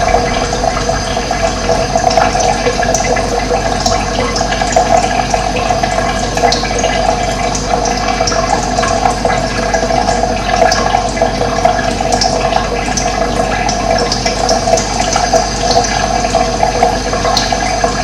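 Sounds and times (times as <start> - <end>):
water gurgling: 0.0 - 18.0.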